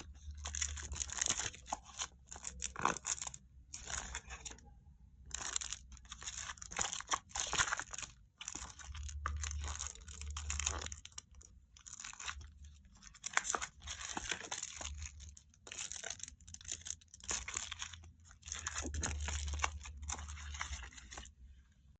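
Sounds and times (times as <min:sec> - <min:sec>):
packaging crinkling and tearing: 0:00.0 - 0:04.6, 0:05.3 - 0:21.3.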